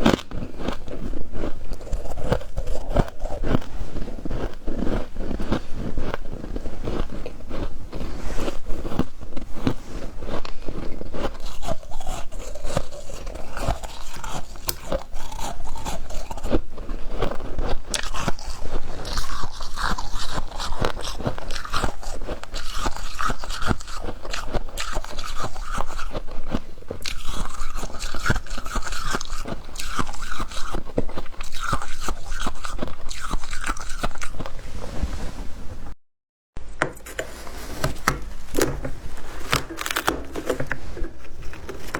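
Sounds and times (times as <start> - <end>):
crunching and chewing ice: 0.0 - 34.7, 37.9 - 41.9.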